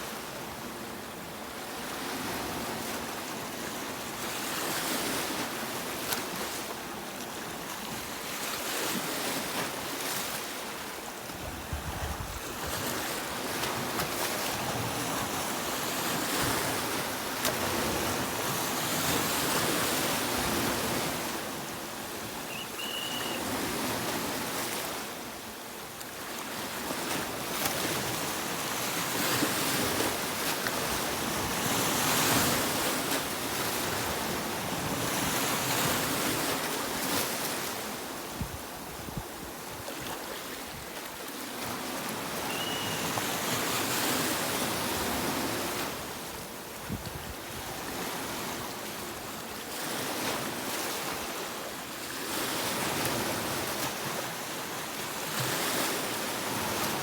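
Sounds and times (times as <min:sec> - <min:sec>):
sea waves breaking on beach: 0:00.0 - 0:57.0.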